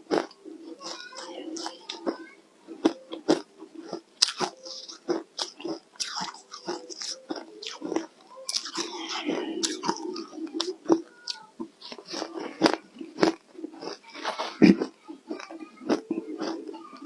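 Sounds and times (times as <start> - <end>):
ice being chewed: 0.1 - 17.0.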